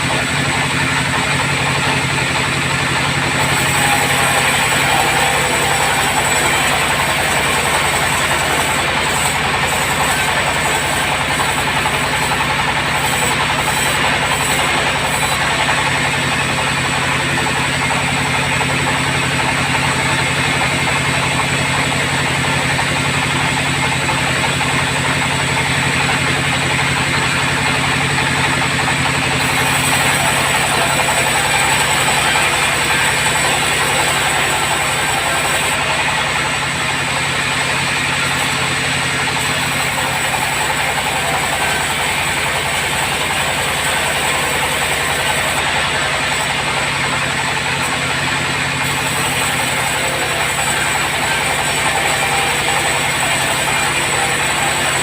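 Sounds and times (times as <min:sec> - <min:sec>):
bandsaw low drone: 0:00.0 - 0:55.0.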